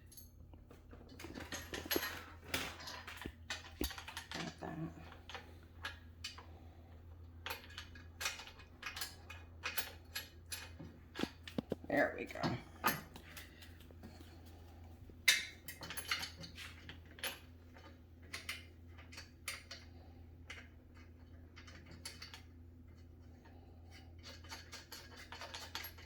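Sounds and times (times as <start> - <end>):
clicks and clatters of parts and tools: 0.0 - 26.0.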